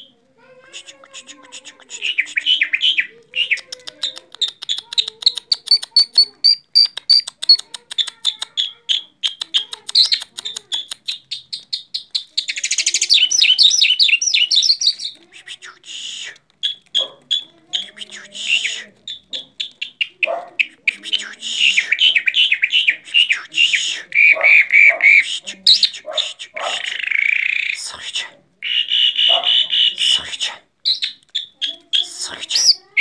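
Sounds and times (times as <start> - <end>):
bird chirping and trilling: 0.8 - 15.8, 16.6 - 28.0, 28.6 - 33.0.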